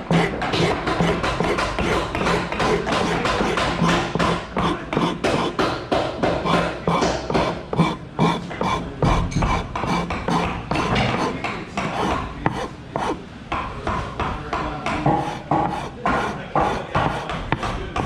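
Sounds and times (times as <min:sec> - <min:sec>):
lathe tool cutting wood: 0:00.0 - 0:13.2, 0:15.1 - 0:18.0.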